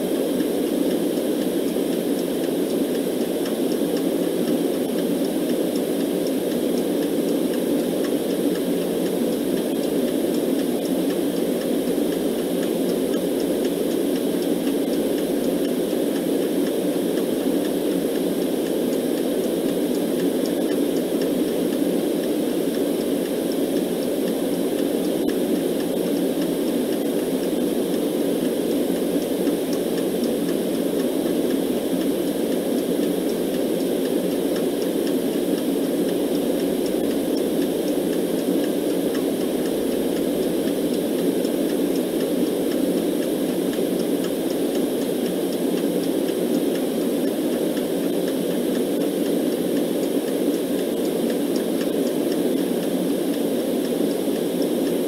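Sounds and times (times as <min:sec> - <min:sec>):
low rushing noise hiss: 0:00.0 - 0:55.0.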